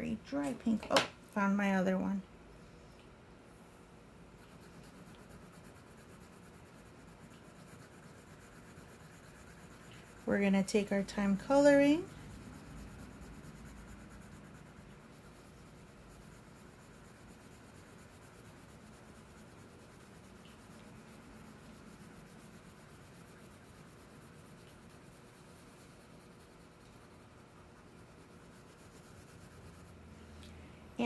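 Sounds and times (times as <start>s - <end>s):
crayon scratching on paper: 4.4s - 30.3s.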